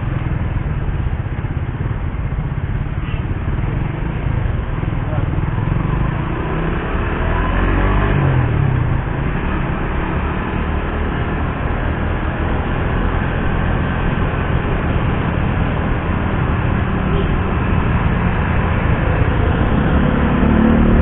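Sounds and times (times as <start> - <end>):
wind and road noise: 0.0 - 21.0
motorcycle engine revving: 3.0 - 21.0.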